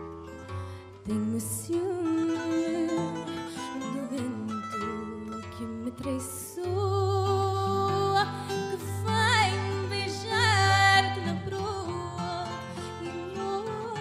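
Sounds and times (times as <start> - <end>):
guitars playing: 0.0 - 14.0
woman singing with vibrato: 1.0 - 14.0.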